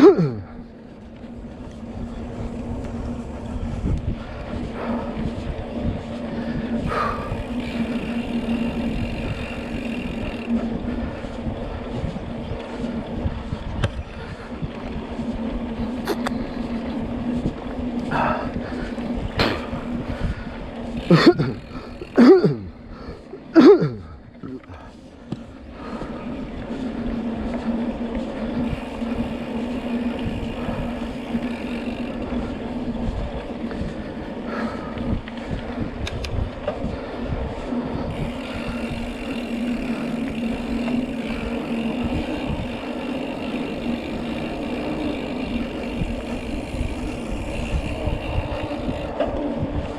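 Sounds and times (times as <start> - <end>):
bike clicks and rattles: 0.0 - 49.9
bike tyres rumbling on dirt: 0.0 - 49.9
steady low hum: 0.0 - 49.9
wind on microphone: 0.7 - 49.9.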